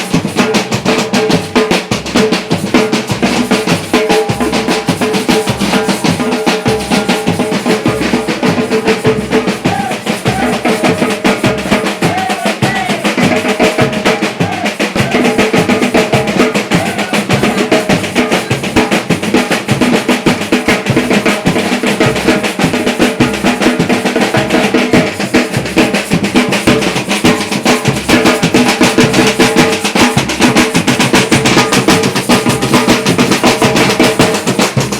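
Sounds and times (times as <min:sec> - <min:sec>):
samba drum ensemble: 0:00.0 - 0:34.9.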